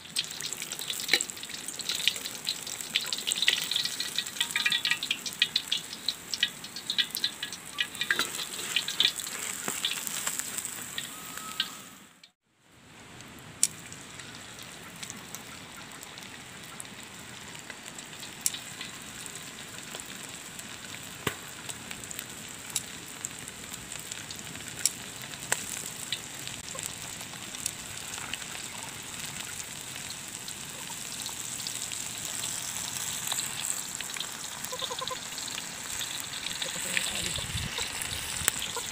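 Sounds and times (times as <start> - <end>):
crackling oil: 0.0 - 12.4, 13.0 - 38.9
oil sizzling in a wok: 0.0 - 38.9.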